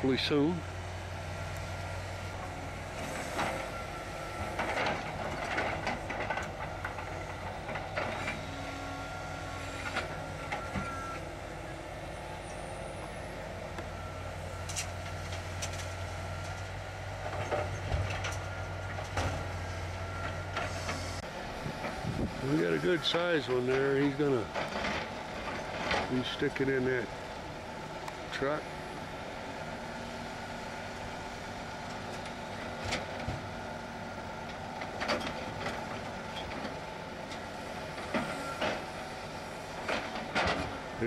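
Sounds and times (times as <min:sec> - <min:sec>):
distant diesel engine running: 0:00.0 - 0:41.0.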